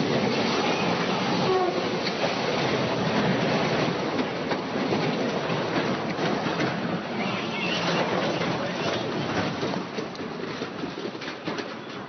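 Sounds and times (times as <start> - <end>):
freight train rumble and clatter: 0.0 - 12.0.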